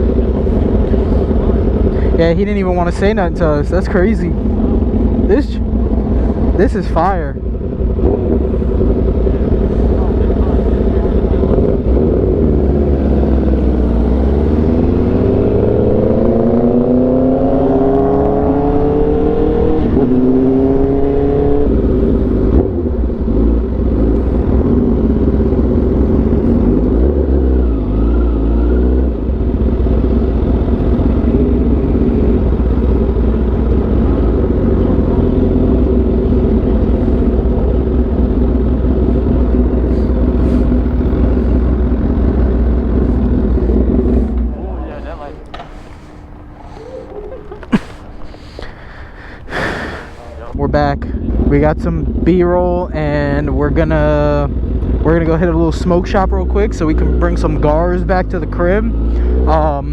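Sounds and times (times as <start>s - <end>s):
sportbike engine accelerating: 0.0s - 59.9s.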